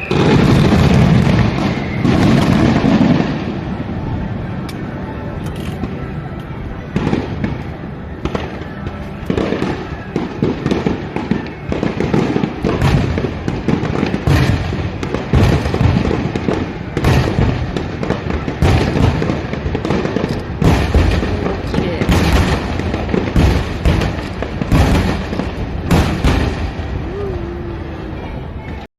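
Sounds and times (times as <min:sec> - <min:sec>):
fireworks bursting: 0:00.0 - 0:28.9
fireworks crackling: 0:00.0 - 0:28.9.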